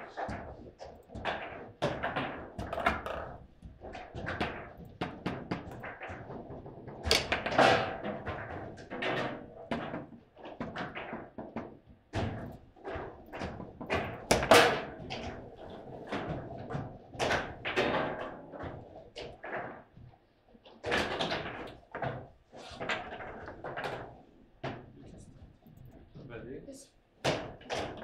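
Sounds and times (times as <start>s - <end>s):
table football knocks and clunks: 0.0s - 19.9s, 20.7s - 25.0s, 27.2s - 28.0s.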